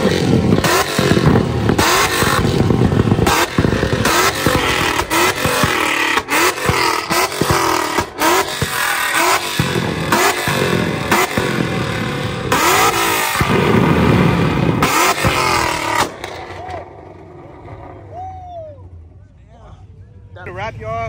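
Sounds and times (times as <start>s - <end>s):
car engine revving: 0.0s - 18.2s
exhaust bangs and crackles: 0.0s - 18.2s.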